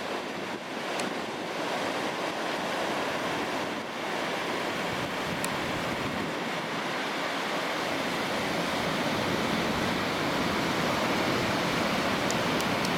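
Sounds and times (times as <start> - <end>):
surf breaking on beach: 0.0 - 12.9.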